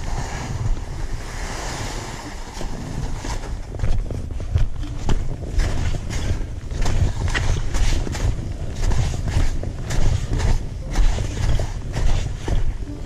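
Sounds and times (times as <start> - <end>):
skis hissing and scraping on snow: 0.0 - 3.7, 5.5 - 13.0
wind rumbling on microphone: 0.0 - 13.0.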